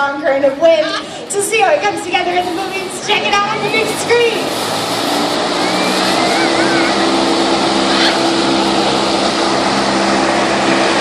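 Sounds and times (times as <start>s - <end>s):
large fan blowing air: 0.0s - 11.0s.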